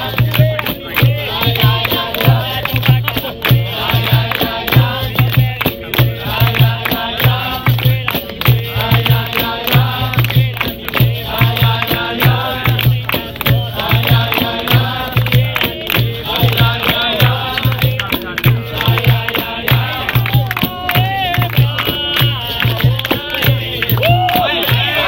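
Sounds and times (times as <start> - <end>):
group of voices singing: 0.0 - 25.0
sharp percussion clicks: 0.0 - 25.0
steady drum beat: 0.0 - 25.0.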